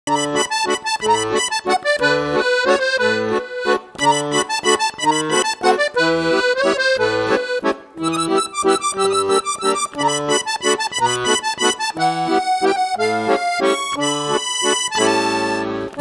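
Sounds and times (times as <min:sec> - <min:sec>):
accordion tune: 0:00.1 - 0:16.0
bouncing bass and chords: 0:00.1 - 0:16.0.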